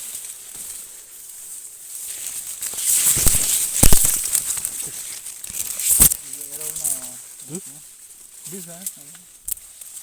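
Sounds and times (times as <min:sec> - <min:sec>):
rustling of dry corn plants: 0:00.0 - 0:10.0.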